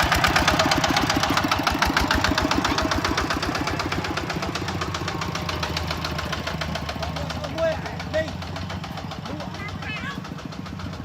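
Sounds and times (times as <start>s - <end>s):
harvester engine knocking: 0.0s - 11.0s.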